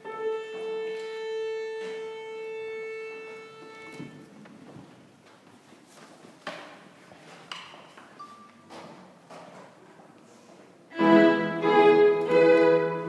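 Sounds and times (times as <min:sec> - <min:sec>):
faint shuffling: 0:00.0 - 0:13.0.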